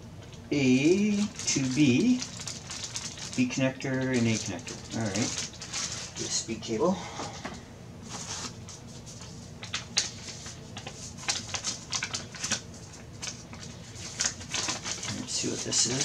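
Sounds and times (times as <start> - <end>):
plastic packaging crinkling: 0.4 - 6.8, 8.1 - 16.0
paper sheet rustling: 0.9 - 6.6, 8.0 - 16.0.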